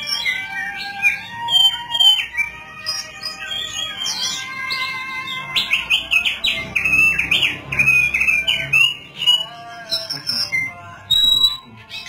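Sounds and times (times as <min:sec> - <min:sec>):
bird warbling chirps: 0:00.0 - 0:12.0.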